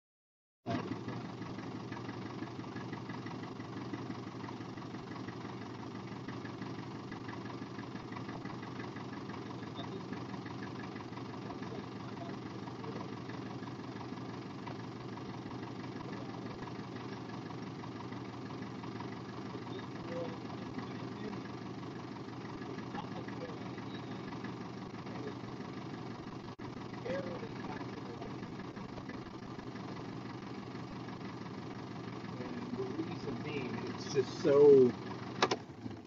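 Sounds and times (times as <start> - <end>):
car engine idling: 0.7 - 36.0.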